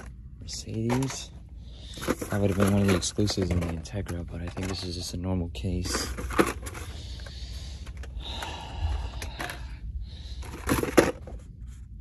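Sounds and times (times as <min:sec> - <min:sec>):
plastic blister packs rustling: 0:00.0 - 0:11.5.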